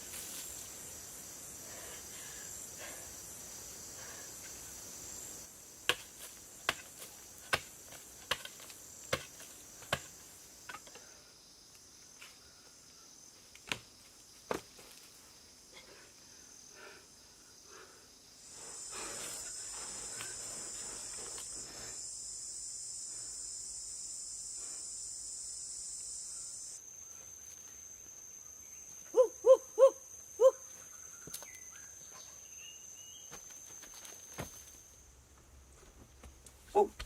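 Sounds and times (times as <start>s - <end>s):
insects calling: 0.0s - 35.3s.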